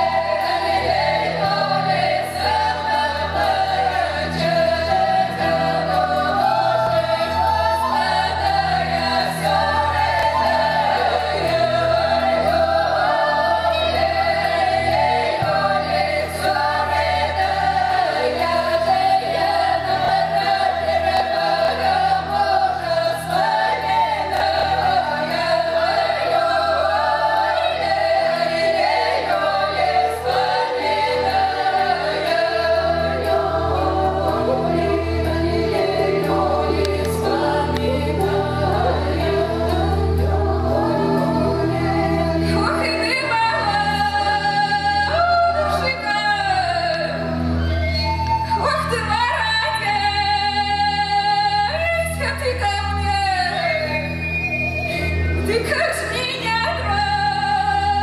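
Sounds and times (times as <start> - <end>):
low instrumental accompaniment: 0.0 - 58.0
women singing folk song: 0.0 - 58.0.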